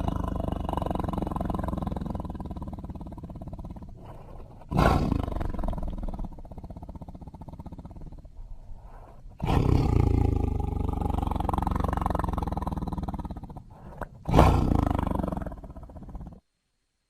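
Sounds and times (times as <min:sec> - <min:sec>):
tiger roaring: 0:00.0 - 0:16.4.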